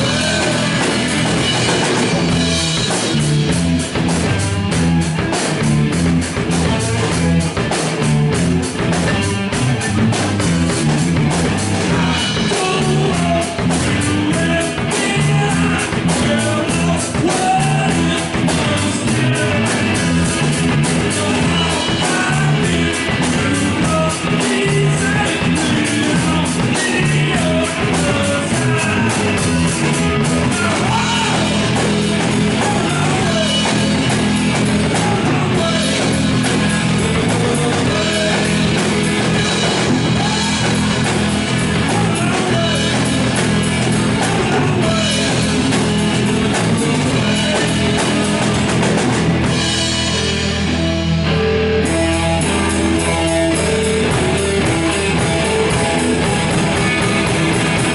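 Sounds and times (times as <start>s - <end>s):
electric guitar: 0.0s - 57.9s
rock band playing live: 0.0s - 57.9s.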